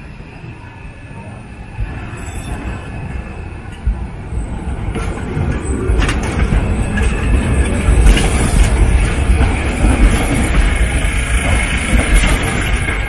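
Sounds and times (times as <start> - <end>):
tram wheels rumbling on rails: 0.0 - 13.0
wheels clacking on track: 1.7 - 13.0.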